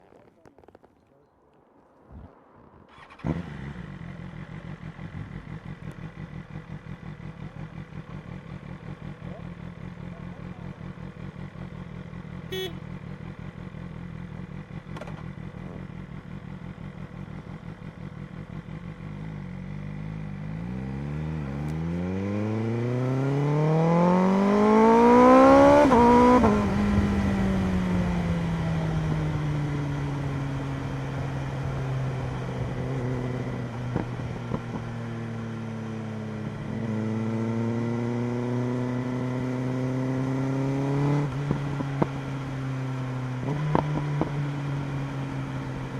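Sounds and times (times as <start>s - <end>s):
motorcycle engine revving: 2.9s - 45.9s.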